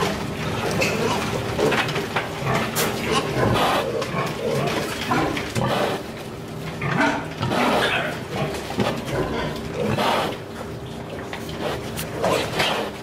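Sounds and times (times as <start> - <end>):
piglets grunting: 0.0 - 6.2, 6.8 - 13.0.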